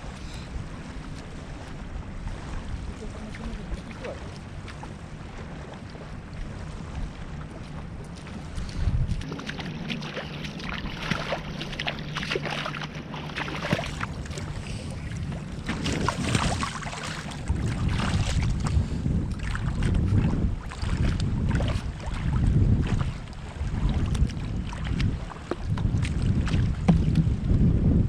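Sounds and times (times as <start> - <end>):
shallow water splashing: 0.0 - 27.6
wind buffeting microphone: 0.0 - 28.0.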